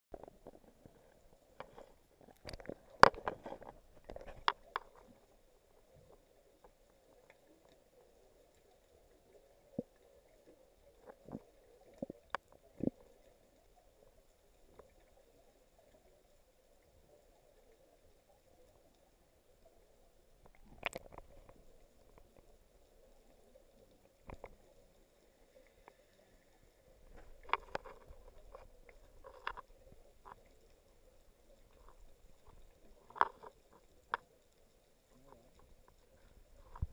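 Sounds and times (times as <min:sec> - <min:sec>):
faint underwater hum: 0:00.1 - 0:36.9.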